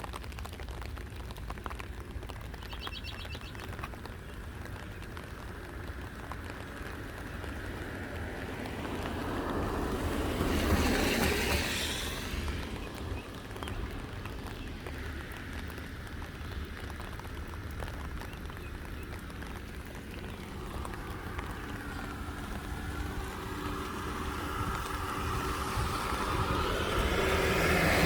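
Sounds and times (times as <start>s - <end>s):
rain pattering: 0.0s - 28.0s
vehicle rumble: 0.0s - 28.0s.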